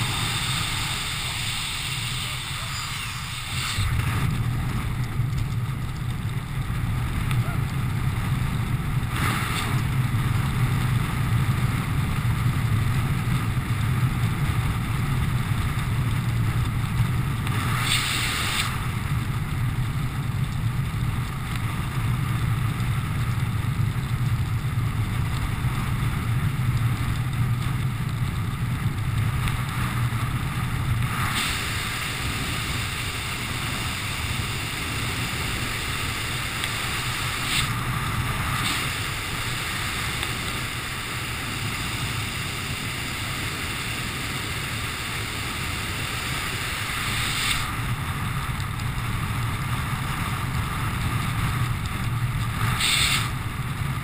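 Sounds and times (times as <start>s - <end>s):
wind rushing over camera: 0.0s - 54.0s.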